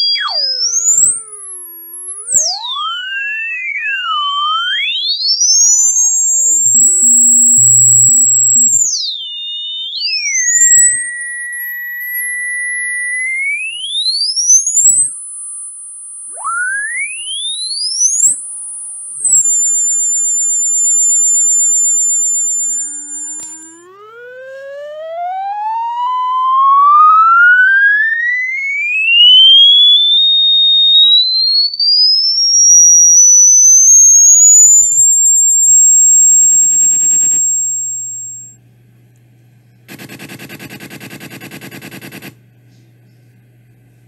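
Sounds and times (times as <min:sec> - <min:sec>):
sliding whistling electronic tones: 0:00.0 - 0:38.6
low electronic buzz: 0:00.0 - 0:44.0.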